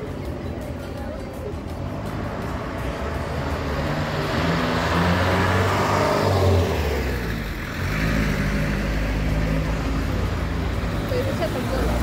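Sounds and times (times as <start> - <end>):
vehicle engine passing: 1.4 - 12.0.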